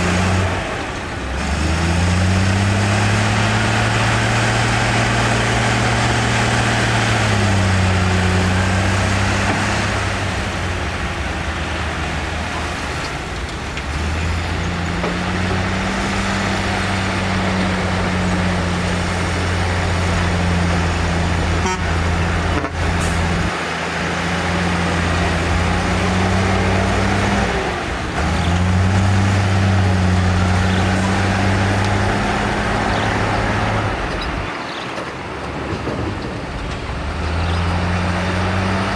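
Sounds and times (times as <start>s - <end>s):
heavy diesel engine running hard: 0.0s - 38.9s
machinery rumble: 0.0s - 38.9s.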